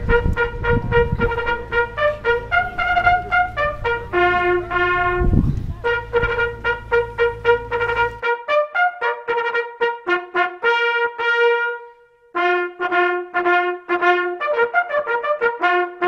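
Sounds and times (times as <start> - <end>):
brass horn military call: 0.0 - 16.0.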